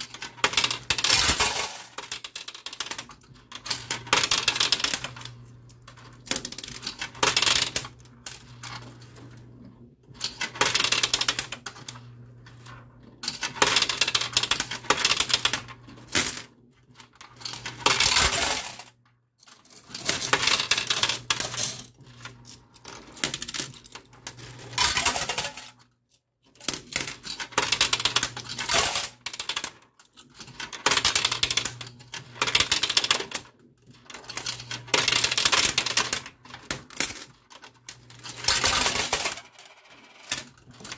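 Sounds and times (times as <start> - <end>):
coins clattering in coin pusher: 0.0 - 9.4, 10.2 - 12.1, 12.7 - 25.9, 26.5 - 40.9.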